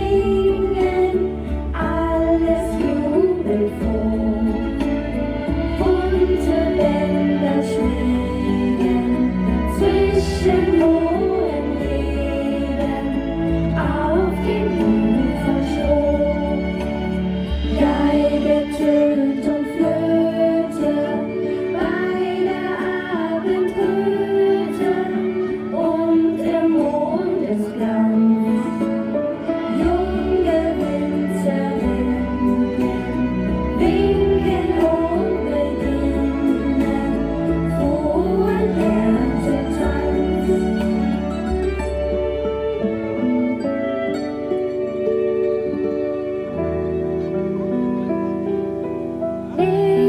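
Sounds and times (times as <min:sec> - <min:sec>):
song with singing over sound system: 0:00.0 - 0:50.0.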